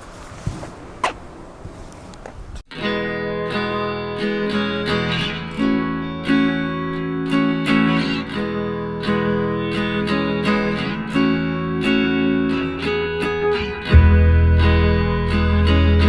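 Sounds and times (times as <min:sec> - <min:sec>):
strummed acoustic guitar: 0:02.7 - 0:16.0.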